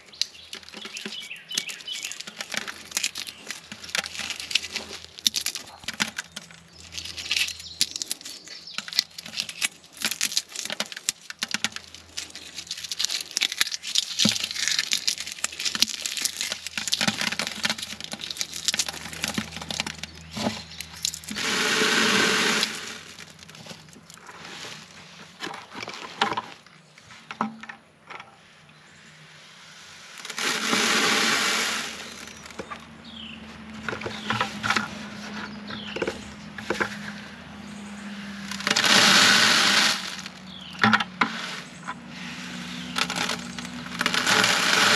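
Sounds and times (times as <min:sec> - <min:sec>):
seed pods crackling and snapping: 0:00.0 - 0:26.8, 0:30.2 - 0:44.9.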